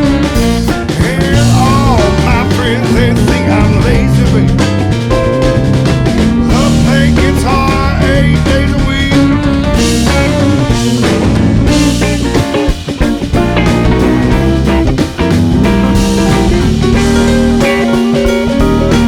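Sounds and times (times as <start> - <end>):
bass guitar: 0.0 - 19.0
drum kit: 0.0 - 19.0
electric guitar: 0.0 - 19.0.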